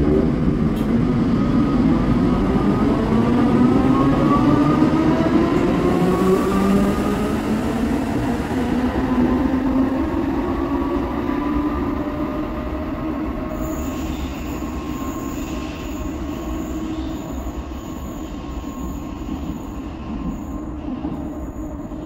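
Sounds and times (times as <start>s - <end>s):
light-rail train rumble and whine: 0.0s - 22.0s.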